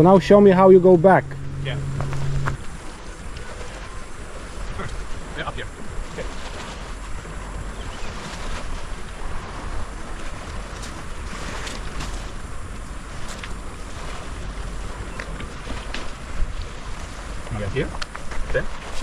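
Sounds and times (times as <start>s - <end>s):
sea washing against rocky shore: 0.0s - 19.0s
wind blowing across microphone: 0.0s - 19.0s.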